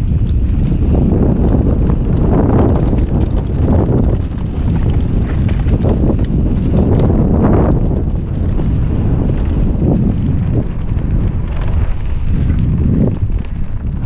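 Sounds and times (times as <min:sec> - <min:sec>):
bike tyres rumbling on dirt trail: 0:00.0 - 0:14.0
wind buffeting microphone: 0:00.0 - 0:14.0.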